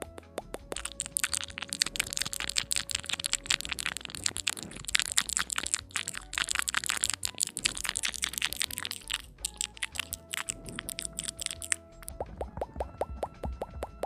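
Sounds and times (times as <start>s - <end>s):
wet mouth clicks and pops: 0.0s - 14.0s.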